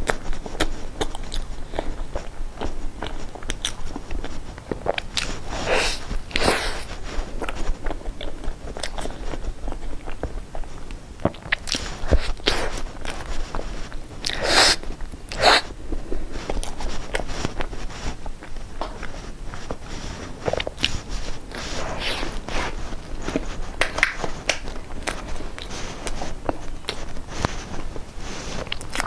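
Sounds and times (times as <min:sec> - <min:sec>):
person chewing pastry: 0:00.0 - 0:29.0
rustling: 0:00.0 - 0:29.0.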